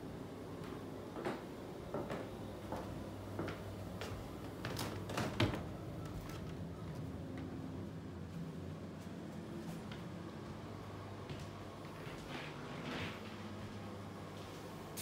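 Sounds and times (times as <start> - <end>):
footsteps indoors: 0.0 - 15.0
low steady hum: 0.0 - 15.0.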